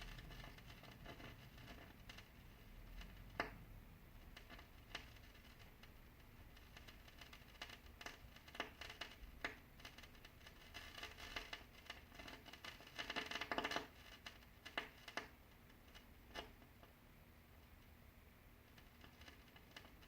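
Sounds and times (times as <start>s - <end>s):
speaker static crackling and popping: 0.0s - 20.0s.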